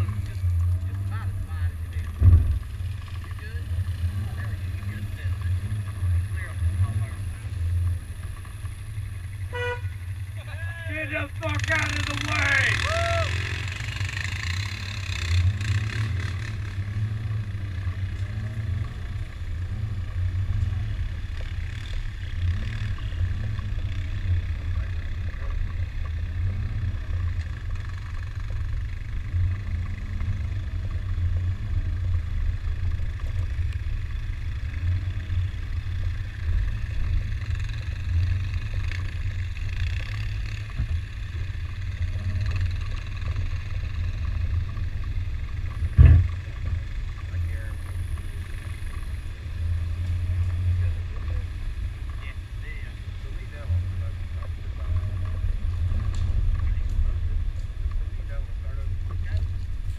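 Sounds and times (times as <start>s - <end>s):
car engine low rumble: 0.0s - 59.9s.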